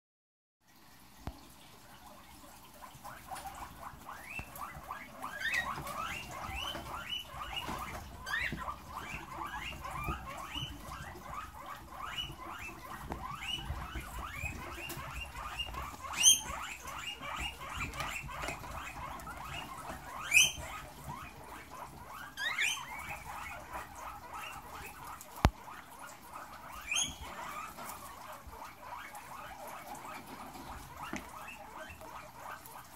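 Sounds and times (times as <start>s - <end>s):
guinea pigs chewing: 0.7s - 32.9s
guinea pig squeals: 2.0s - 32.9s.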